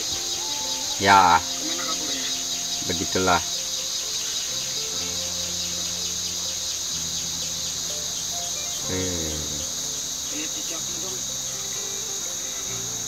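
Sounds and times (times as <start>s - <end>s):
forest insects chorus: 0.0s - 13.0s
low steady tones: 0.0s - 13.0s.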